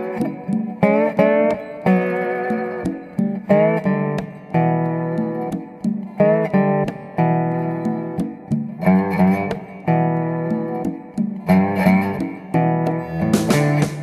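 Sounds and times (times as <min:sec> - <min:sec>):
blues guitar with bent notes: 0:00.0 - 0:14.0.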